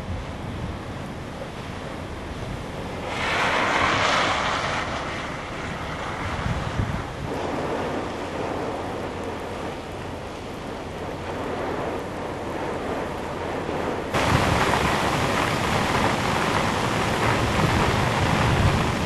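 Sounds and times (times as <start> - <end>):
hurricane wind: 0.0 - 19.0
heavy rain: 2.8 - 19.0.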